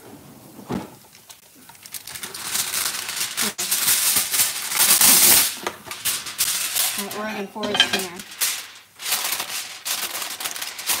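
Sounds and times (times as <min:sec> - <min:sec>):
aluminum foil crinkling: 0:01.1 - 0:11.0.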